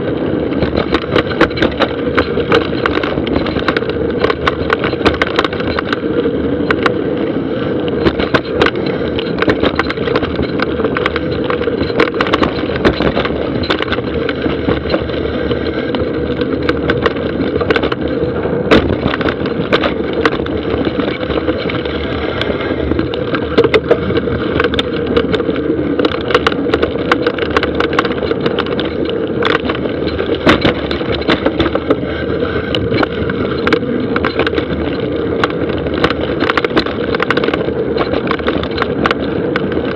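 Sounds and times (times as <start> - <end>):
bike rattling over rocks: 0.0 - 39.9
bike tyres rumbling on gravel: 0.0 - 39.9.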